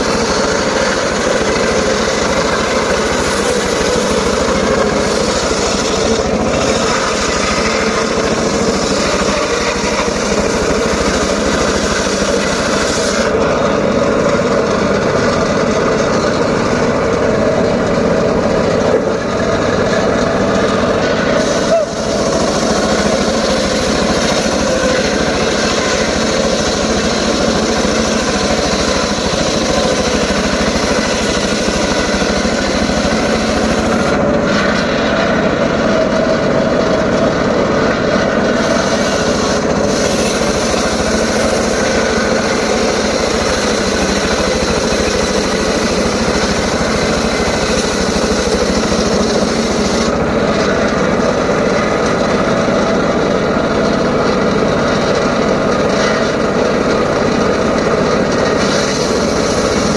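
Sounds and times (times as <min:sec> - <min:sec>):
circular saw cutting wood: 0:00.0 - 0:59.9.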